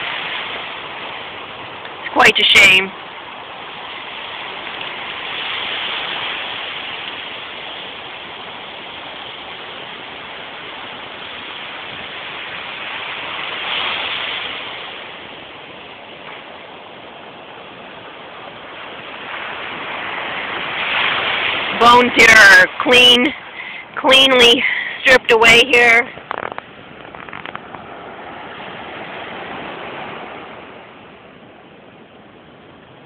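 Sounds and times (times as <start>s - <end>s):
ocean surf washing on beach: 0.0s - 33.0s.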